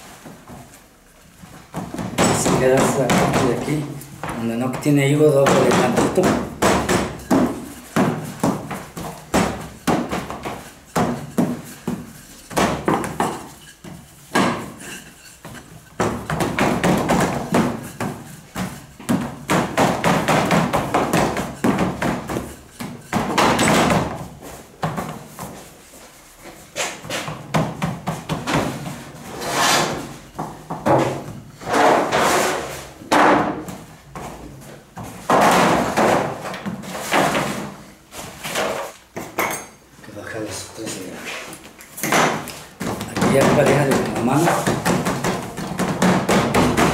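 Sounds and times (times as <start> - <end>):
thuds of dough and pins: 1.4 - 25.8, 26.8 - 29.3, 29.9 - 39.5, 42.0 - 46.9.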